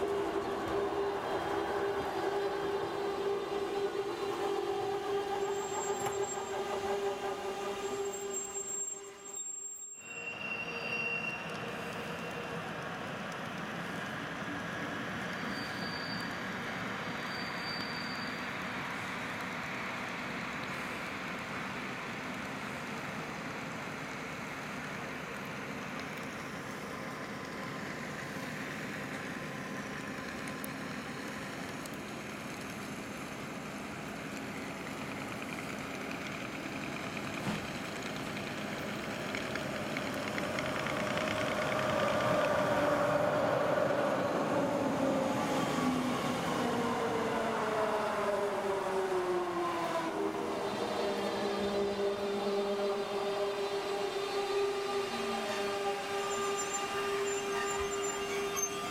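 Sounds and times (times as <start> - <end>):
electric train rumbling: 0.0 - 58.9
traction motors whining: 0.0 - 58.9.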